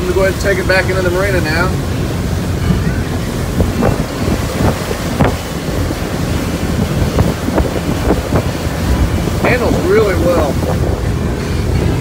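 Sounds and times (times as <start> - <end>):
sharp water splashes: 0.0 - 12.0
wake churning: 0.0 - 12.0
water rushing past boat hull: 0.0 - 12.0
wind buffeting microphone: 0.0 - 12.0.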